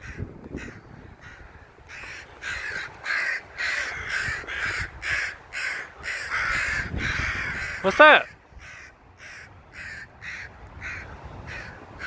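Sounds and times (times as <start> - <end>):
crows cawing harshly: 0.0 - 12.0.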